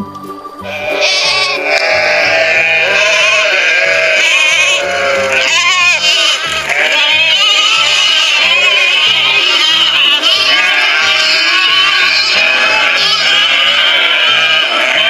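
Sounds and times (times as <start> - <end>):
background music with steady beat: 0.0 - 15.0
sheep bleating: 0.6 - 15.0.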